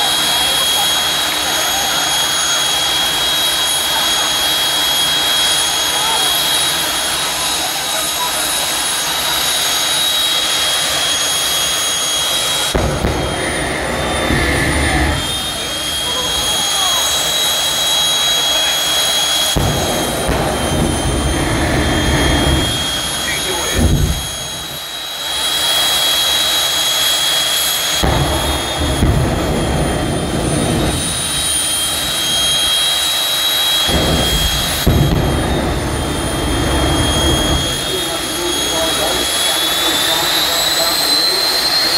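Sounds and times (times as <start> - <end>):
afterburner deep rumble: 0.0 - 41.9
jet turbine engines whining: 0.0 - 41.9.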